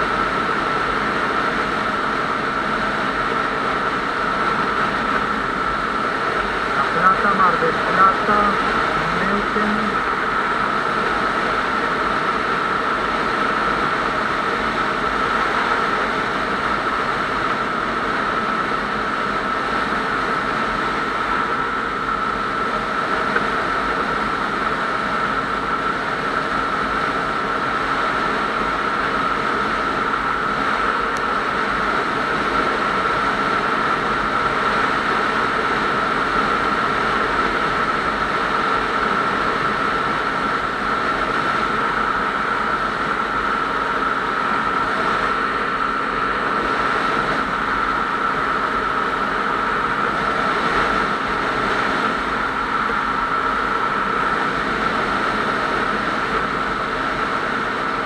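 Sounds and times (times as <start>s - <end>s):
high whine: 0.0s - 58.0s
motorcycle engine drone: 0.0s - 58.0s.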